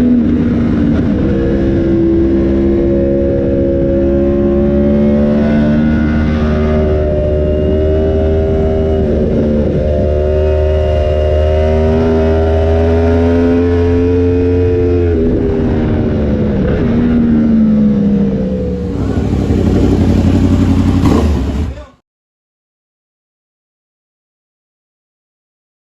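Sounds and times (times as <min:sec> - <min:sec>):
motorcycle engine while riding: 0:00.0 - 0:22.0.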